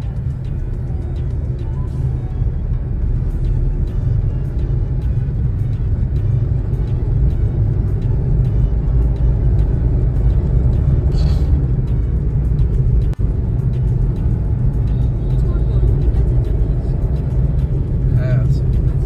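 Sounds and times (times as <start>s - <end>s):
background music with light beat: 0.0s - 19.0s
car road and engine rumble: 0.0s - 19.0s.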